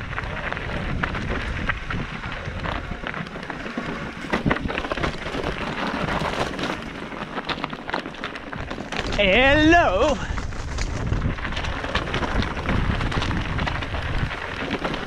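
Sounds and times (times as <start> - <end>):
bike rattling over rocks: 0.0 - 15.0
tyres crunching on gravel: 0.0 - 15.0.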